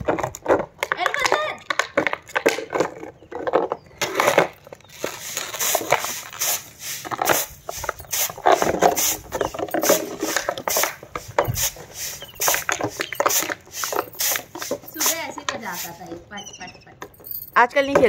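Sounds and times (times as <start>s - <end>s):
dog chewing plastic bottle: 0.0s - 14.8s
bottle scraping on concrete: 1.7s - 18.0s.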